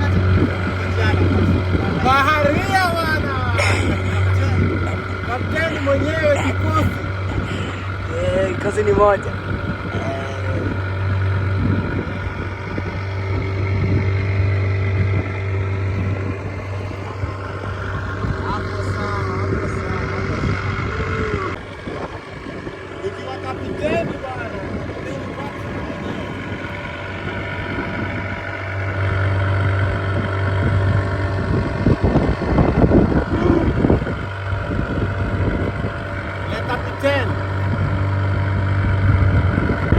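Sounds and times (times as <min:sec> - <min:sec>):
boat engine running: 0:00.0 - 0:39.9
wind noise: 0:00.0 - 0:39.9.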